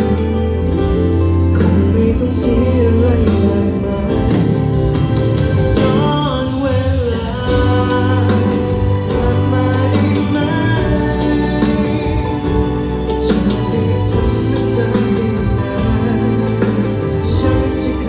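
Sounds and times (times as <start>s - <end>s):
live band: 0.0s - 18.0s
steady bass line: 0.0s - 18.0s
man singing pop ballad: 1.2s - 18.0s.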